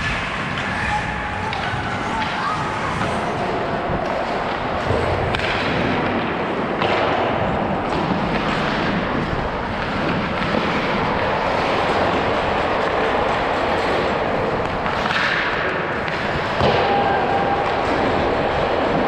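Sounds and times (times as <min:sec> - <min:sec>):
skate blades scraping ice: 0:00.0 - 0:19.0.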